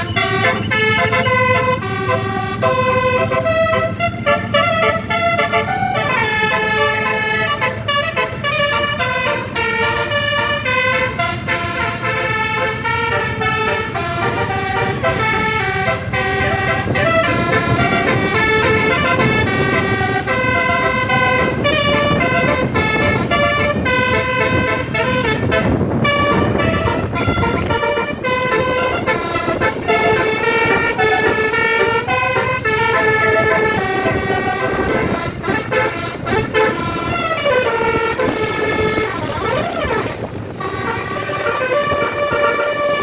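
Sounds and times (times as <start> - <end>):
multi-tone air horn melody: 0.0 - 43.0.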